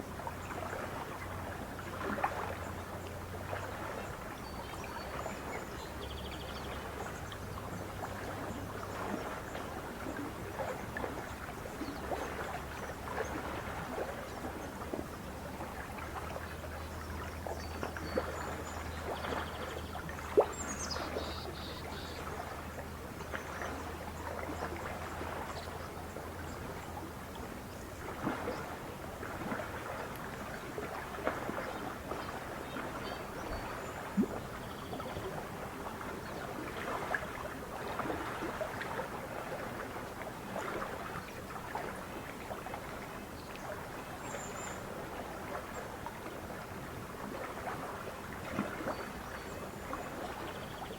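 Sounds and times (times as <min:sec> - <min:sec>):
small waves lapping: 0:00.0 - 0:50.9.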